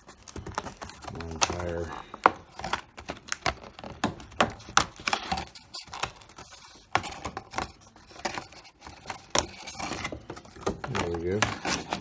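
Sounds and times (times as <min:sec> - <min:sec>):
cardboard box clicks and snaps: 0:00.2 - 0:09.9.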